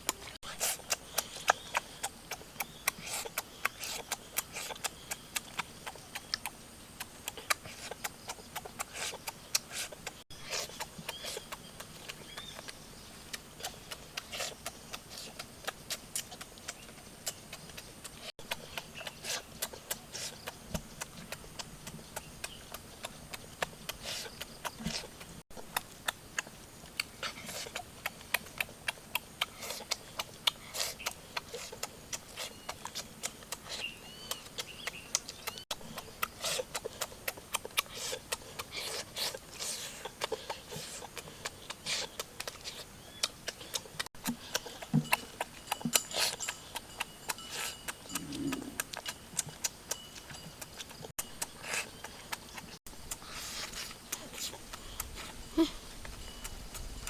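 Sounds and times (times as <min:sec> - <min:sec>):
person chewing and smacking food: 0:00.0 - 0:57.0.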